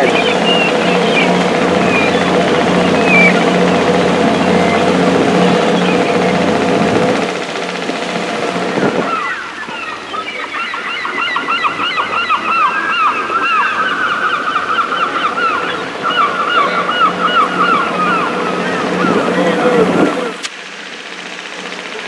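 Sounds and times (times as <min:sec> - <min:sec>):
engine hum: 0:00.0 - 0:10.6, 0:11.8 - 0:22.0
seagulls calling: 0:00.0 - 0:20.5.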